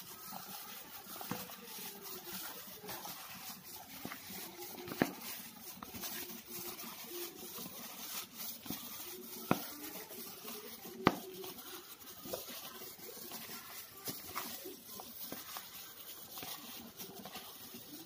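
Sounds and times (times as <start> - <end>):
gloved hand squeezing dough: 0.0 - 18.0.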